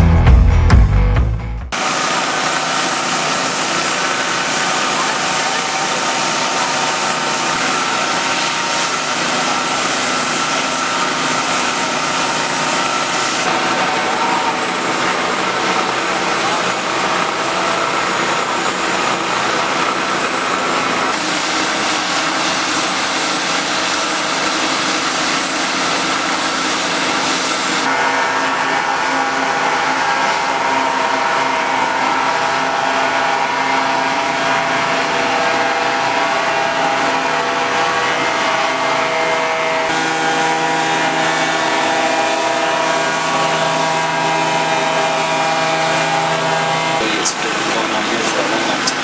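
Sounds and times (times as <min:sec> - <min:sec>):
jet engine whining: 0:01.7 - 0:49.0.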